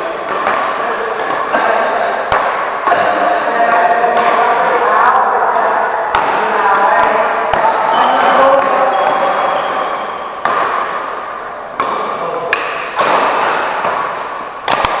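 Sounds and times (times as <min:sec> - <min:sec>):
racket hitting shuttlecock: 0:00.0 - 0:15.0.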